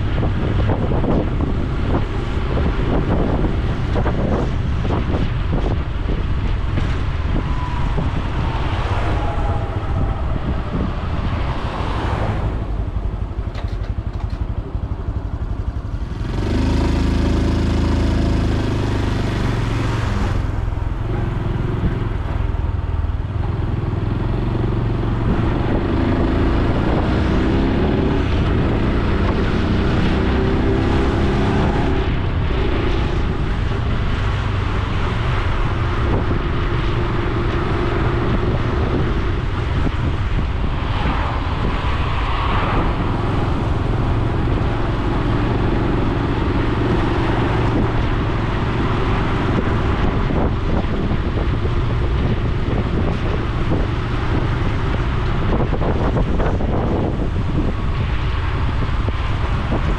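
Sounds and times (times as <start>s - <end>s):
wind on microphone: 0.0s - 59.9s.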